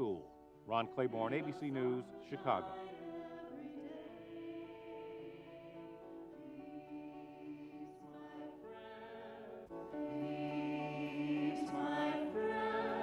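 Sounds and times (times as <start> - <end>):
choir singing a hymn: 0.7 - 13.0.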